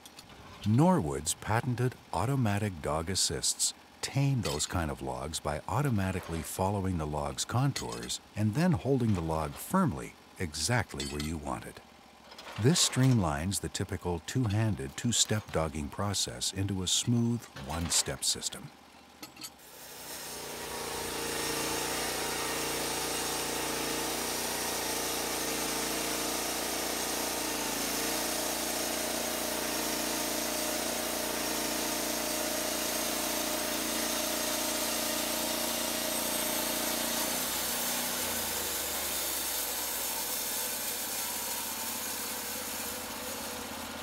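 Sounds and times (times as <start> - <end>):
band sawmill cutting a log: 0.6 - 11.8, 12.6 - 18.9, 19.6 - 44.0.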